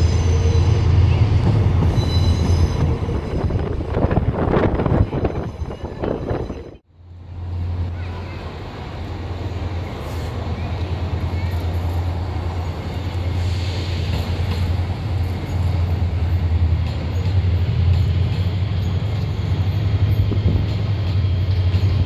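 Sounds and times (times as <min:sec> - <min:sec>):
train low drone: 0:00.0 - 0:22.0.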